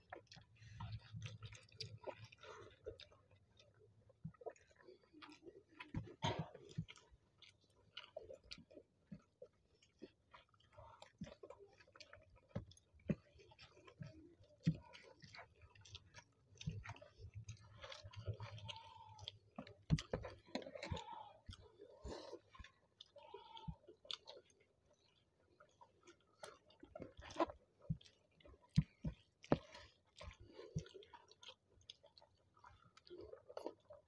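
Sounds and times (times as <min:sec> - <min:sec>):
people chewing: 0:00.0 - 0:34.0.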